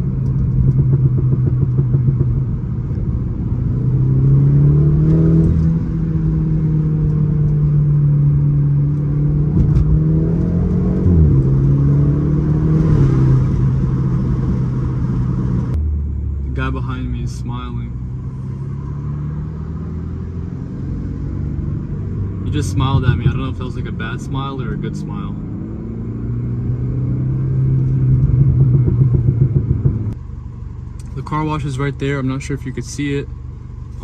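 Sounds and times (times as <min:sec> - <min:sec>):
car engine pulling while driving: 0:00.0 - 0:34.0.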